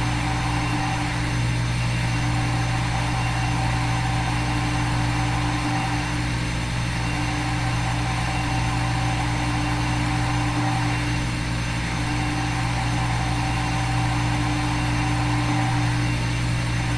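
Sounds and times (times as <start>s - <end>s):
low machine hum: 0.0s - 16.9s.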